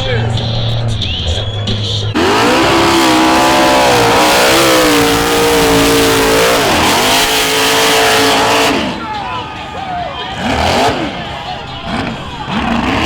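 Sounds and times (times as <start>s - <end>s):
engine revving hard: 2.1s - 13.0s.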